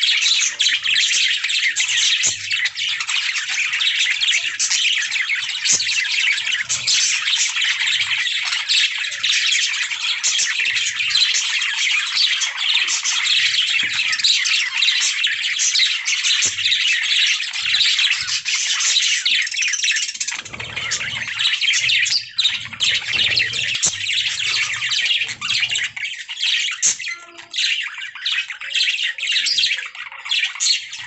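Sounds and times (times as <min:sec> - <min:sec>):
budgerigars chirping and warbling: 0:00.0 - 0:31.0.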